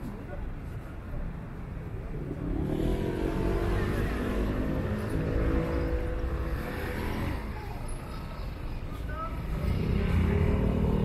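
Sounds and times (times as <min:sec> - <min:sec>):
low street rumble: 0:00.0 - 0:11.0
vehicle engine humming: 0:01.8 - 0:11.0.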